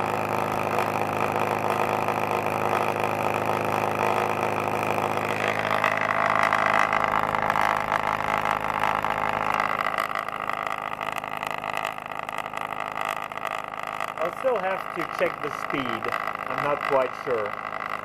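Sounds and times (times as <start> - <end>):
generator humming: 0.0 - 18.0.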